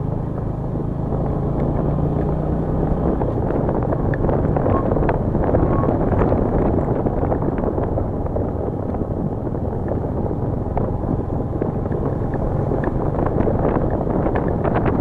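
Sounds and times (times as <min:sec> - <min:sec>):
wind rumbling against microphone: 0:00.0 - 0:15.0.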